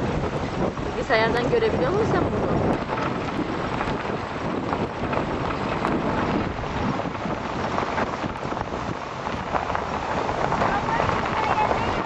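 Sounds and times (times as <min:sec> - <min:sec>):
car road noise: 0:00.0 - 0:12.0
wind buffeting microphone: 0:00.0 - 0:12.0
wind rushing: 0:00.0 - 0:12.0.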